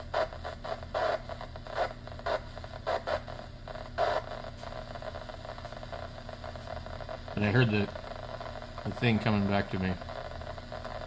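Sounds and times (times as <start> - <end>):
crackling bursts: 0.0 - 11.0
radio static hiss: 0.0 - 11.0.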